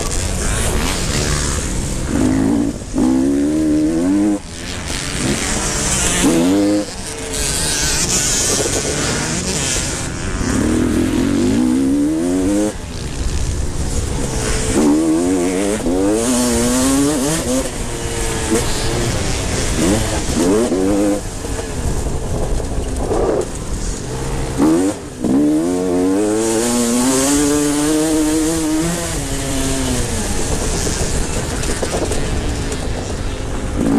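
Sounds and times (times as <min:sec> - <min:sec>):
motocross bike engines revving: 0:00.0 - 0:33.9.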